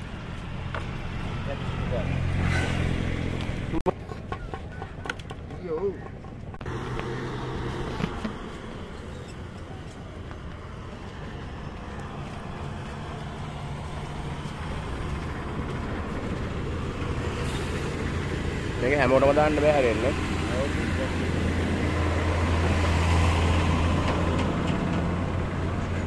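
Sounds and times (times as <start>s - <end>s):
traffic-like noise: 0.0s - 26.0s.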